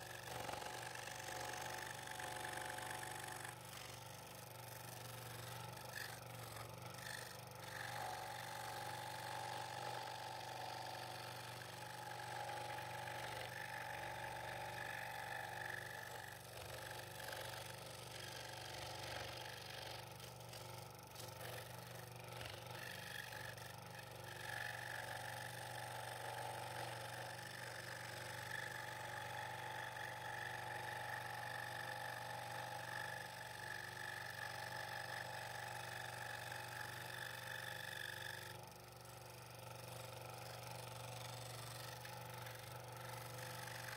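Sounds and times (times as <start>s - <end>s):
scroll saw cutting wood: 0.0s - 43.9s.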